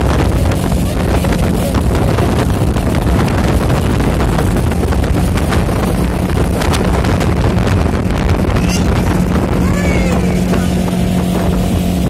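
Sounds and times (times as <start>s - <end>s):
speedboat engine running: 0.0s - 12.0s
wind buffeting microphone: 0.0s - 12.0s.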